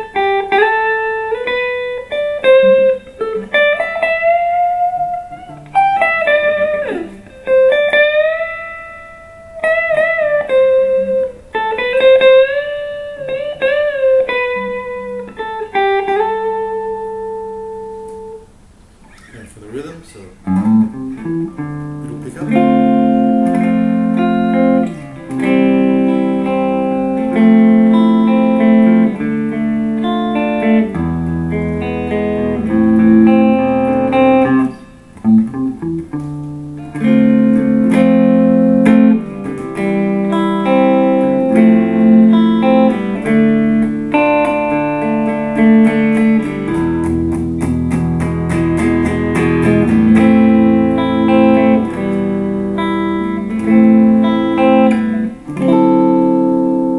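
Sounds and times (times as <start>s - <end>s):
clean electric guitar: 0.0s - 56.9s.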